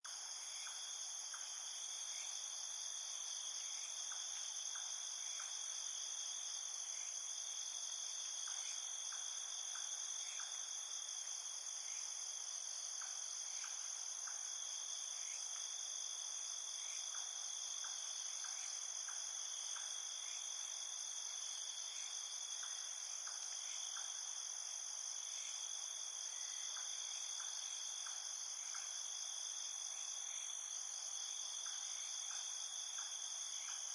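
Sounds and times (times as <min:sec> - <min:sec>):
crickets trilling: 0:00.1 - 0:33.9.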